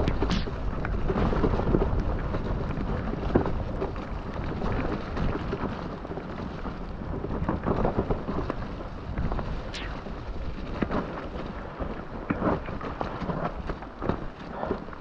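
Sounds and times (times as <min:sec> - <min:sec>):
wind and tyres rumbling: 0:00.0 - 0:15.0.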